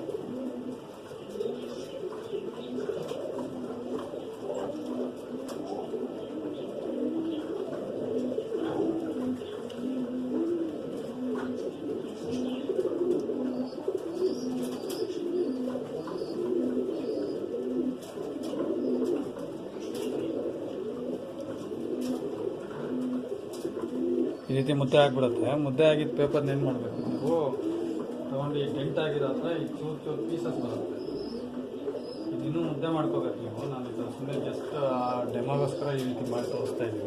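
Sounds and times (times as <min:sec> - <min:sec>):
pigeons cooing: 0:00.0 - 0:37.0.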